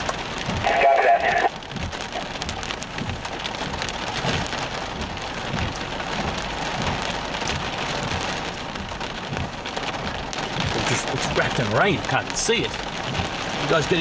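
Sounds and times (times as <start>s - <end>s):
rain on car windshield and roof: 0.0s - 14.0s.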